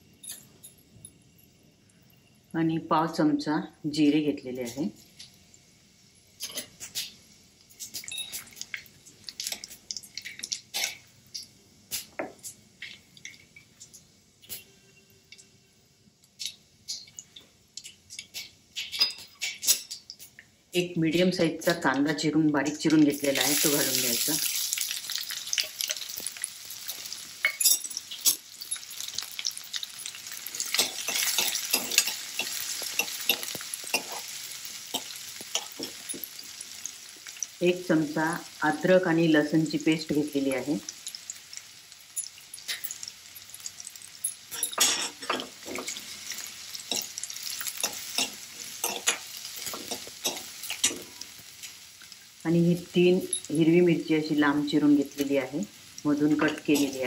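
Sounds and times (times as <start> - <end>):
spices popping in hot oil: 0.0 - 57.0.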